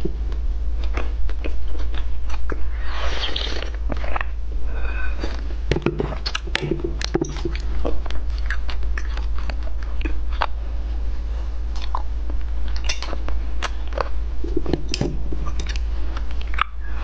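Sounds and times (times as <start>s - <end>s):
steady low hum: 0.0s - 17.0s
wet chewing with mouth clicks: 0.3s - 4.4s, 5.2s - 10.6s, 11.7s - 16.9s.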